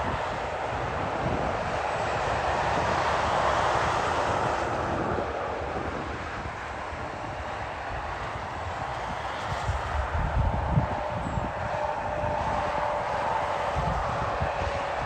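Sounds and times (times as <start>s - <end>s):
tyres hissing on wet road: 0.0s - 15.0s
wind rumbling on microphone: 0.0s - 15.0s.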